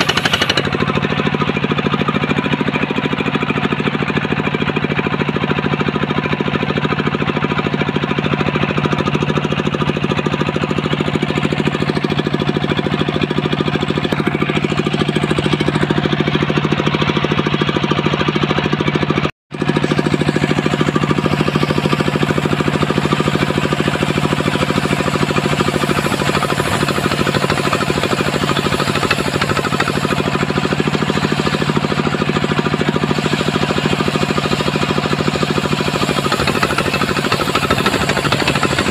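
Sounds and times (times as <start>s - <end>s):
sawmill engine knocking: 0.0s - 38.9s.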